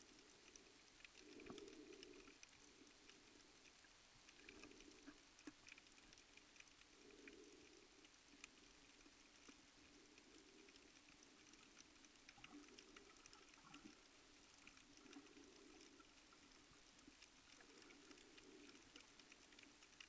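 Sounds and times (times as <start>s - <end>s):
underwater crackling clicks: 0.0s - 20.0s.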